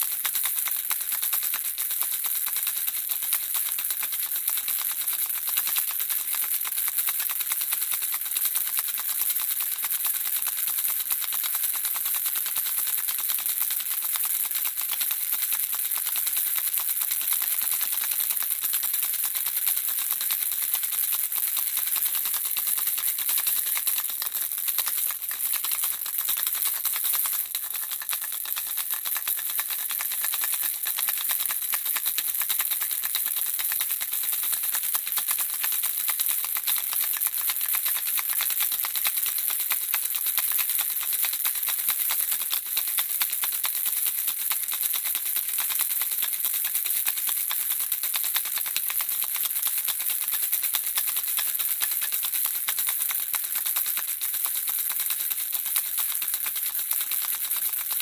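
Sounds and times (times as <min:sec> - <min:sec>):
baby rattle shaking: 0:00.0 - 0:58.0.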